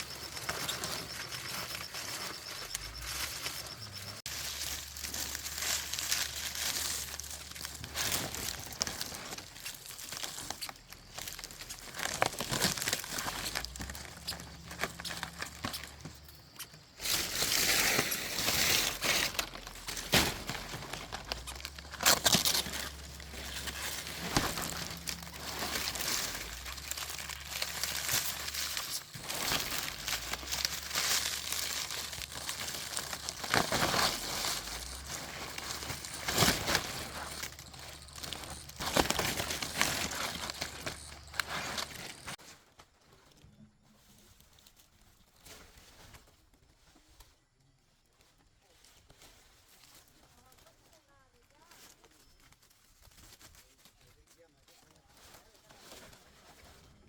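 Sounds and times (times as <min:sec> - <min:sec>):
rustling crinkling handling noise: 0:00.0 - 0:57.0.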